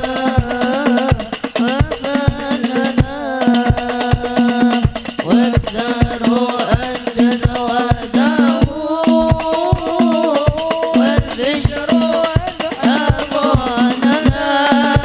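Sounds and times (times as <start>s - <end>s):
drum jingles rattling: 0.0s - 15.0s
frame drums beating: 0.0s - 15.0s
lead voice singing: 0.0s - 15.0s.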